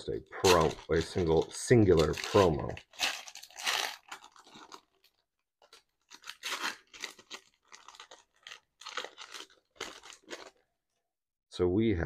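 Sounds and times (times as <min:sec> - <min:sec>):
plastic packaging crinkling and tearing: 0:00.2 - 0:10.8.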